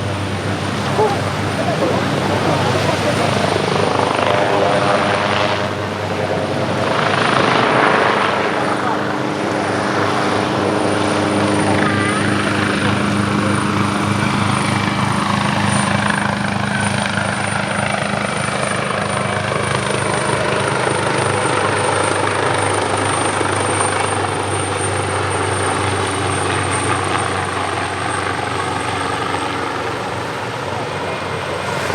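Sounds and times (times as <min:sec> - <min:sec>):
helicopter main rotor beat: 0:00.0 - 0:31.9
turbine whine: 0:00.0 - 0:31.9.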